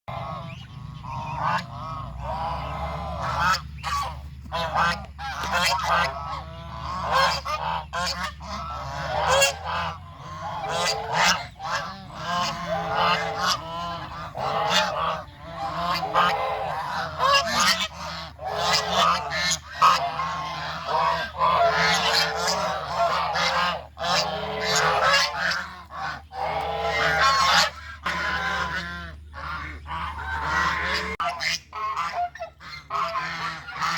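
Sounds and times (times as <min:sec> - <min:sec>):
geese honking: 0:00.1 - 0:33.9
low steady hum: 0:00.1 - 0:33.9.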